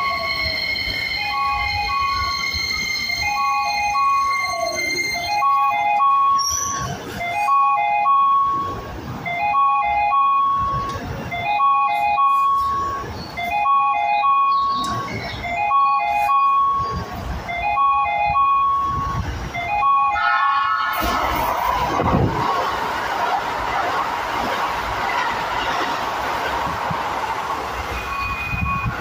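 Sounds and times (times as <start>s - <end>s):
rail and street rumble: 0.0s - 29.0s.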